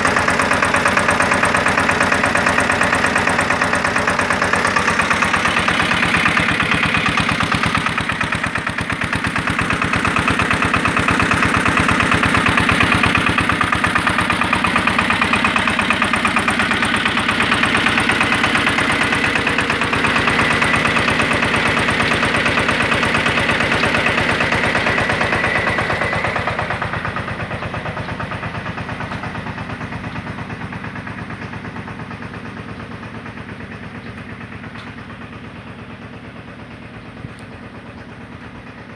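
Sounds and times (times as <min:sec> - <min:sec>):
tractor diesel engine chugging: 0:00.0 - 0:38.9.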